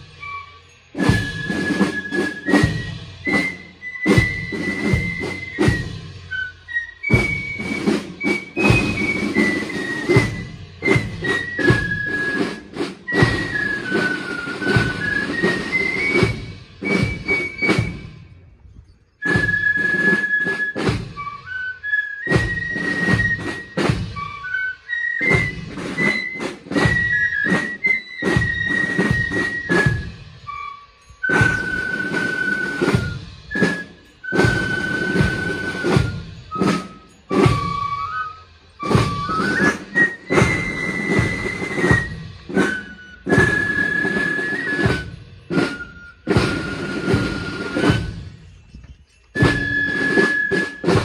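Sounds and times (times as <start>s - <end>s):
snare drum strokes: 0.0s - 18.3s, 19.3s - 48.3s, 49.4s - 51.0s.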